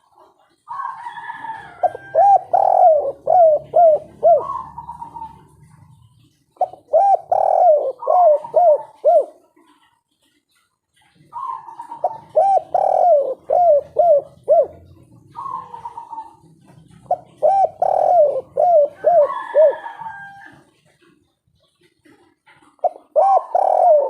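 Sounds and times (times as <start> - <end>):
dove cooing: 0.0 - 24.0.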